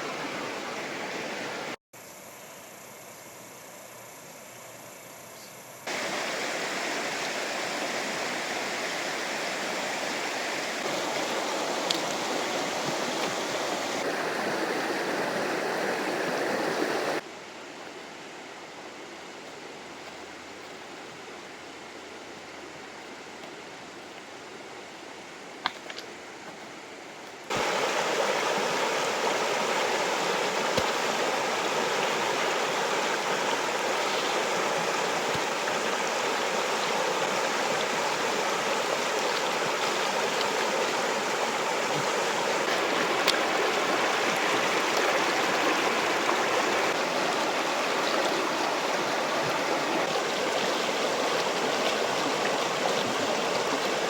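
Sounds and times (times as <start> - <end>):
river water rushing: 0.0 - 1.8, 5.9 - 25.9, 27.5 - 54.0.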